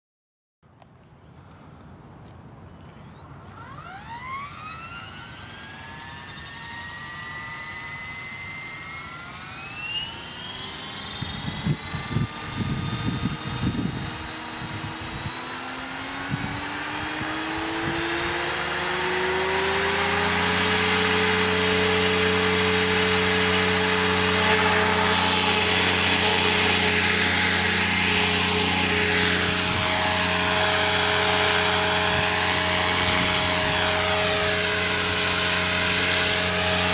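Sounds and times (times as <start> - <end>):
rc helicopter motor whine: 2.7 - 36.9
rotor buzz: 2.8 - 36.9.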